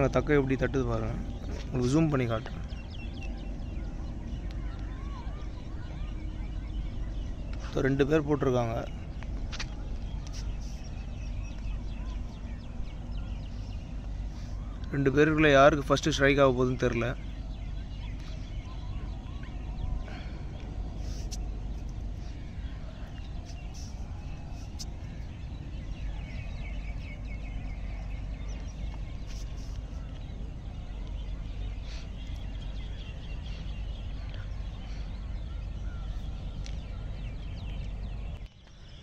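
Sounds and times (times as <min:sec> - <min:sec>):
faint bird calls: 0:00.0 - 0:39.0
low outdoor rumble: 0:00.0 - 0:39.0.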